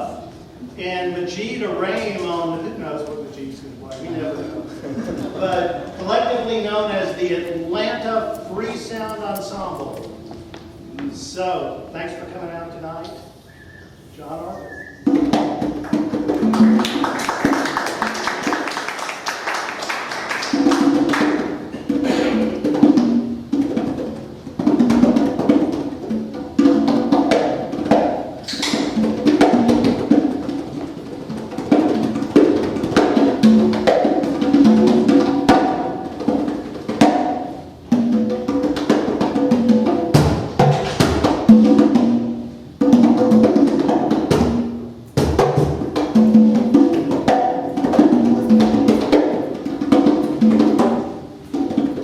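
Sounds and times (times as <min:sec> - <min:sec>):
congas played by hand: 0:00.0 - 0:52.0.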